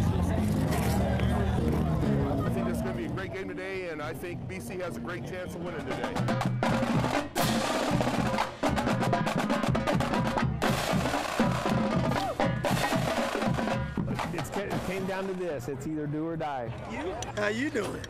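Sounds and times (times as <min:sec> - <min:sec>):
bass drum beats: 0:00.0 - 0:03.4, 0:04.4 - 0:17.4.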